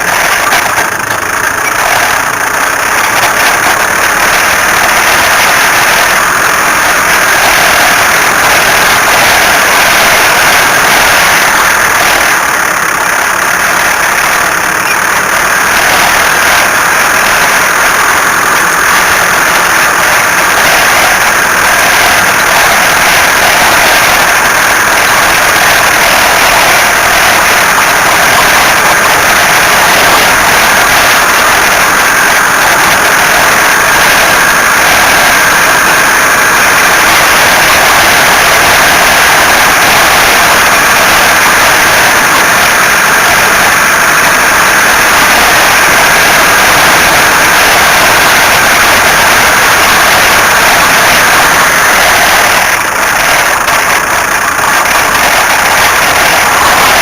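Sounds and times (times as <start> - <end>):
car engine running: 0.0 - 57.0
high-pitched whine: 0.0 - 57.0.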